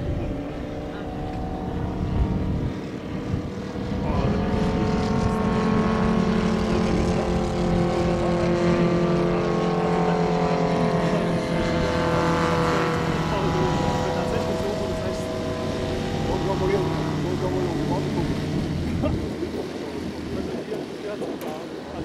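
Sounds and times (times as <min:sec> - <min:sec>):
model plane radial engine: 0:00.0 - 0:22.0.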